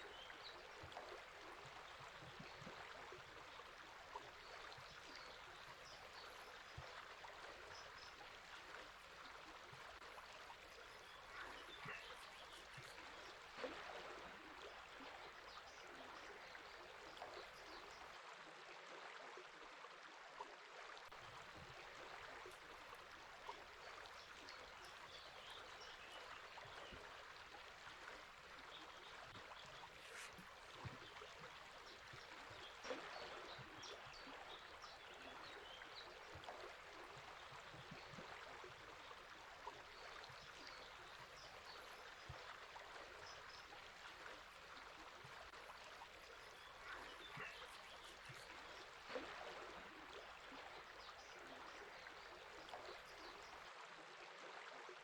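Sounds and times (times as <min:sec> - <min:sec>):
river flowing faintly: 0:00.0 - 0:55.0.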